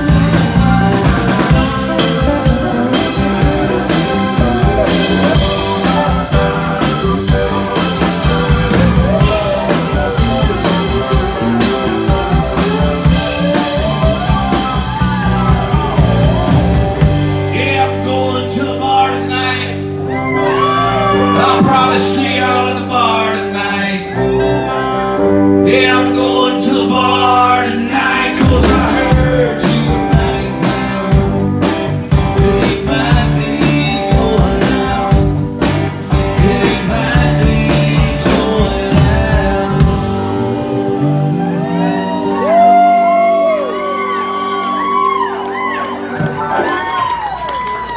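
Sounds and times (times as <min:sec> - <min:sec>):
lead vocals singing: 0:00.0 - 0:19.4, 0:20.6 - 0:31.5, 0:32.1 - 0:42.8
country-rock band playing: 0:00.0 - 0:47.9
drums: 0:00.0 - 0:47.9.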